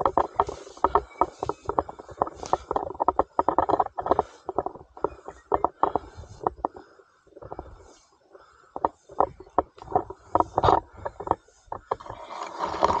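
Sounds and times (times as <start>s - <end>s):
muffled rustling and crackling: 0.0s - 13.0s.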